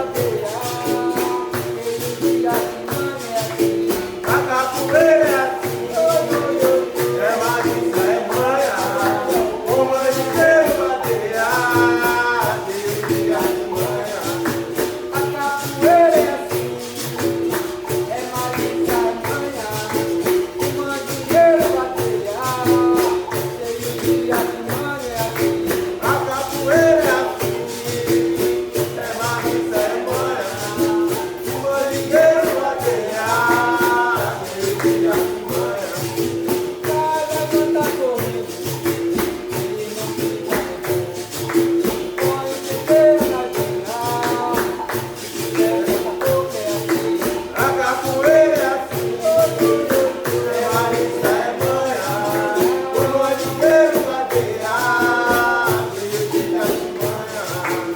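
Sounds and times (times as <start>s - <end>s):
berimbau playing: 0.0s - 57.9s
pandeiro jingles shaking: 0.0s - 57.9s
voices singing: 0.0s - 57.9s.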